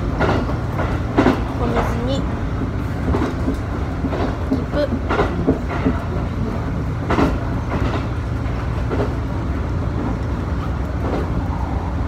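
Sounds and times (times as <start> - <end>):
wheels clacking over rail joints: 0.0 - 11.6
train rumbling on track: 0.0 - 12.0.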